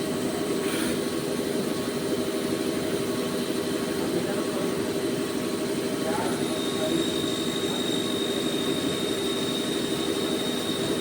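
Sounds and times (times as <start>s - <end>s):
lathe humming: 0.0s - 11.0s.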